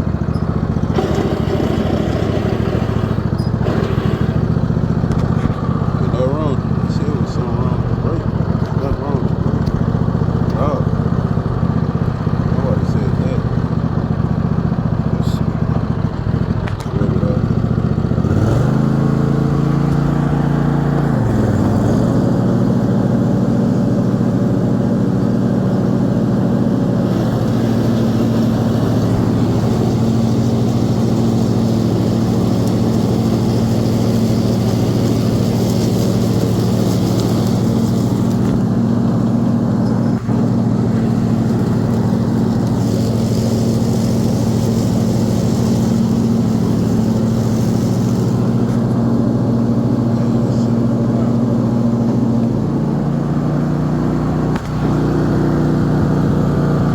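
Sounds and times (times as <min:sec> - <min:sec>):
small gasoline engine revving: 0:00.0 - 0:56.9.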